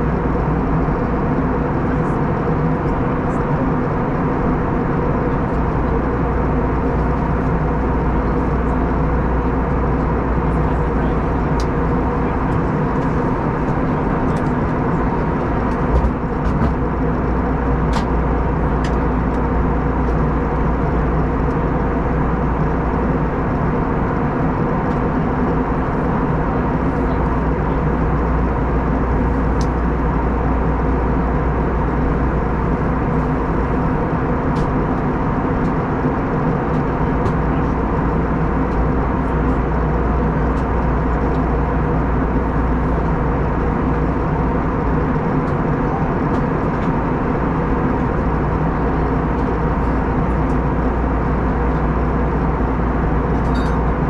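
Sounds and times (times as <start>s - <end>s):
aircraft engine drone: 0.0s - 54.0s
steady low hums: 0.0s - 54.0s.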